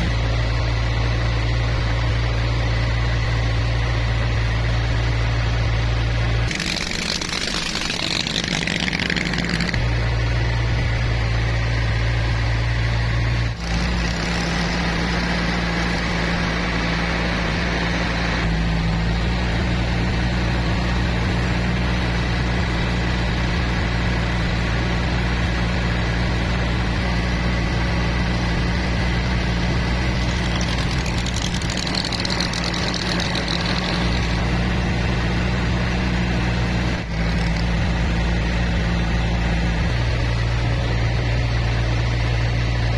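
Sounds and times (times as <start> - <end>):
boat engine droning: 5.2 - 25.0, 25.6 - 42.9.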